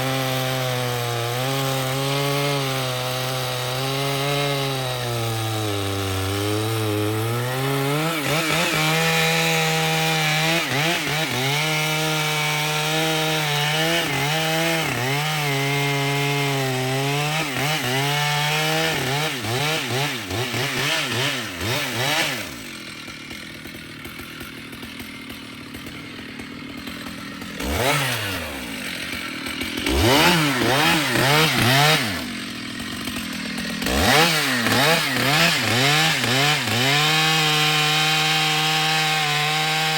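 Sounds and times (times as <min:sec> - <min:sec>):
chainsaw cutting wood: 0:00.0 - 0:39.9
chainsaw revving and idling: 0:00.0 - 0:39.9.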